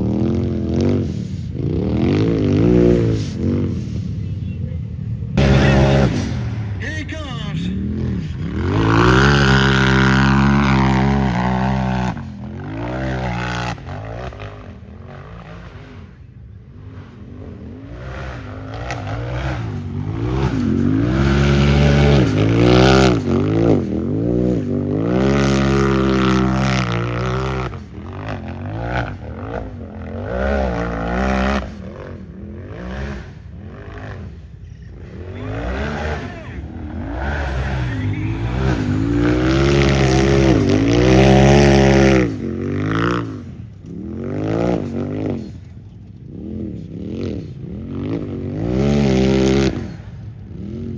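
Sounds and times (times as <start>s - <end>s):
racing engine revving: 0.0s - 4.4s, 5.2s - 50.9s.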